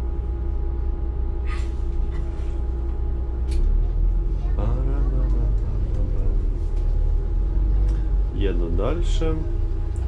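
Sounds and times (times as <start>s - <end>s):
bus engine low rumble: 0.0s - 10.0s
faint steady hum: 0.0s - 10.0s.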